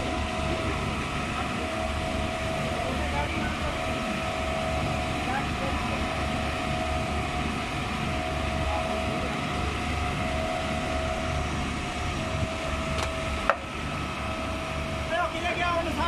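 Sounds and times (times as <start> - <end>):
concrete pump engine rumble: 0.0 - 16.0.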